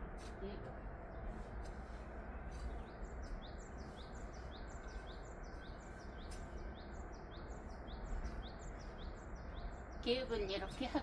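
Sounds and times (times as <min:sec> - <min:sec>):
low background noise: 0:00.0 - 0:11.0
small bird chirping: 0:00.5 - 0:11.0.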